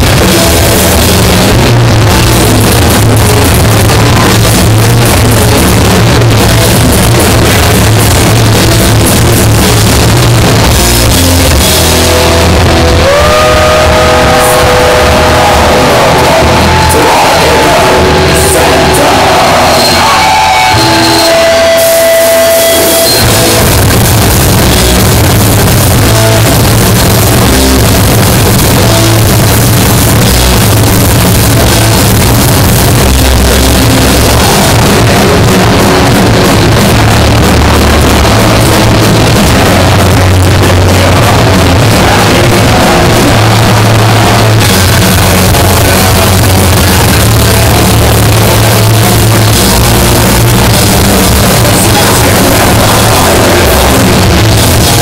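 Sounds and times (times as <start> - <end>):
live heavy rock band: 0.0 - 55.0.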